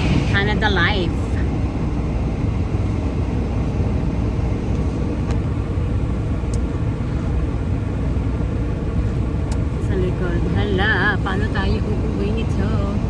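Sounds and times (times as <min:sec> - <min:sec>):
wind buffeting a car: 0:00.0 - 0:13.0.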